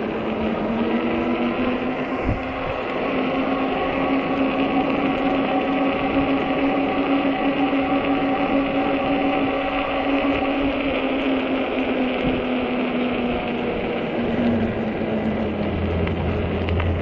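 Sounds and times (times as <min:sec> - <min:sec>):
electric bike motor whining: 0:00.0 - 0:17.0
wind rush: 0:00.0 - 0:17.0.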